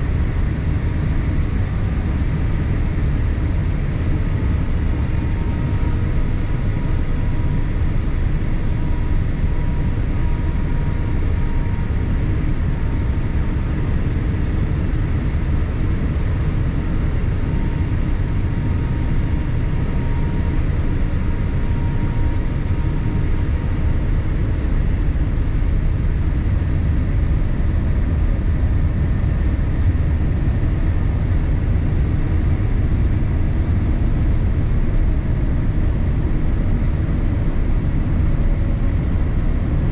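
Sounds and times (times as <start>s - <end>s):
airliner cabin drone: 0.0s - 39.9s
faint steady whine: 0.0s - 39.9s.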